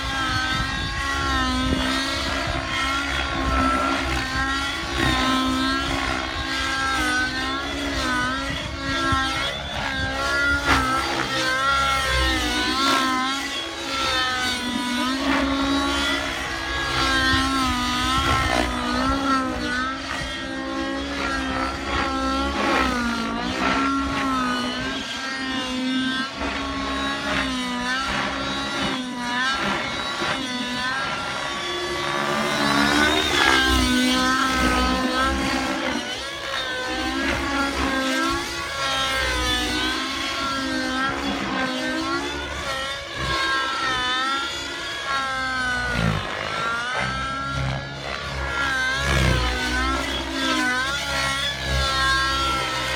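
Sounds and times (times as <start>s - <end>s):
rc helicopter engine and rotor: 0.0s - 52.9s.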